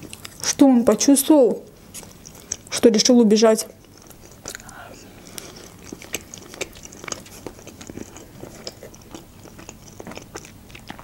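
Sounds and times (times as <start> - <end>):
wet chewing and mouth clicks: 0.0 - 1.1, 1.7 - 11.0.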